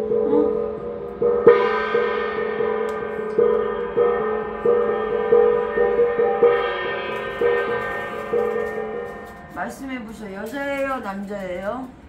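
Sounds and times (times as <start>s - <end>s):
metal gong struck: 0.0s - 10.8s.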